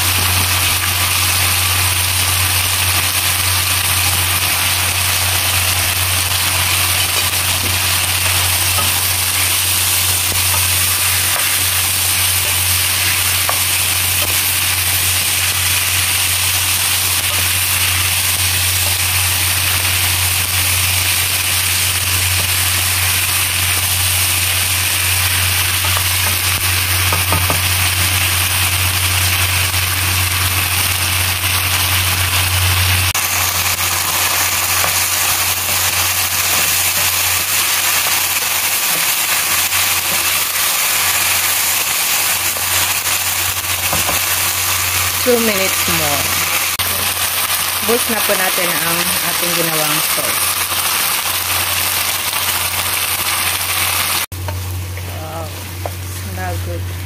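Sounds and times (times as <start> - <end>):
chicken and onions sizzling: 0.0 - 57.0.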